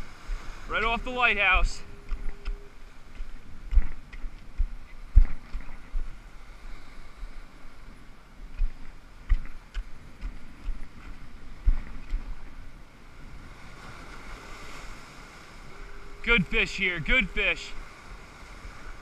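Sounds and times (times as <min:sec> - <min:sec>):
ocean surf washing over rocks: 0:00.0 - 0:19.0
wind buffeting microphone: 0:01.5 - 0:19.0.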